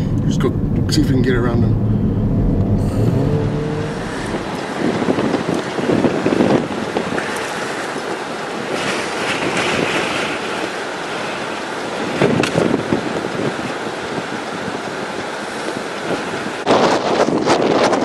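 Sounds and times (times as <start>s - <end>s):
storm wind on microphone: 0.0s - 18.0s.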